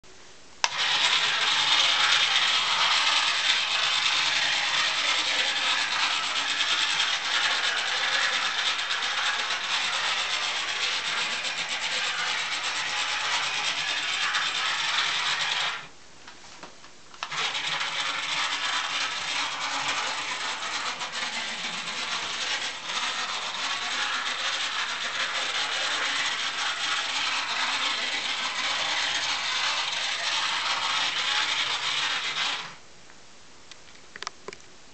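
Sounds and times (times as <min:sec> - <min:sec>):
model motor and gearing running: 0:00.6 - 0:15.9, 0:17.2 - 0:32.8.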